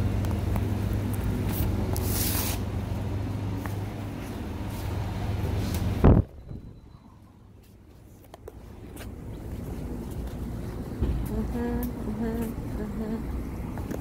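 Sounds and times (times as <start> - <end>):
steady indoor hum: 0.0 - 14.0.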